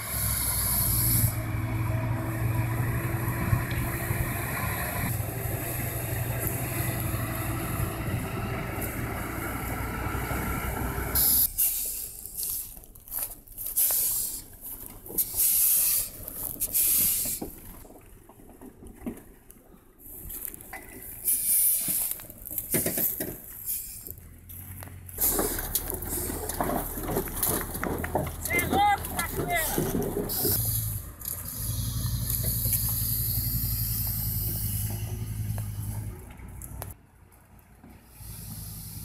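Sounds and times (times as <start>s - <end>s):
diesel truck engine humming: 0.0s - 17.9s, 21.1s - 39.0s.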